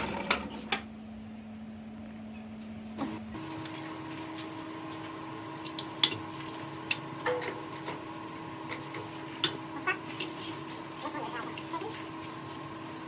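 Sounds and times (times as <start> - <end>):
electric machine hum: 0.0 - 13.0.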